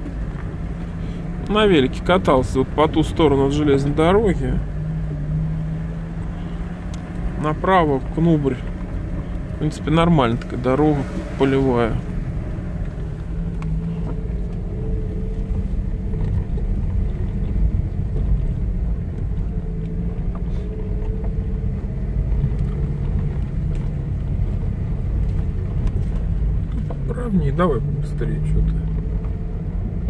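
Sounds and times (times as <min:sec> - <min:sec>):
engine and tyres rumbling: 0:00.0 - 0:30.0.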